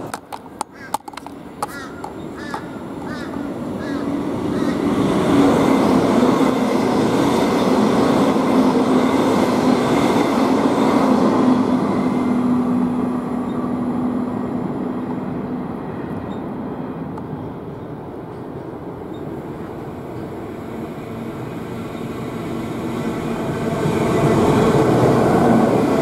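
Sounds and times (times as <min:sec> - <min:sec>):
electric train running past: 0:00.0 - 0:26.0.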